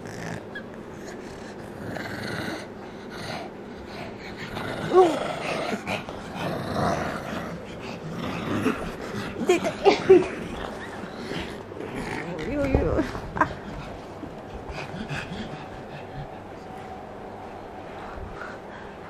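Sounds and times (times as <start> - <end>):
dogs breathing noisily: 0.0 - 19.0
dogs growling in play: 0.0 - 19.0.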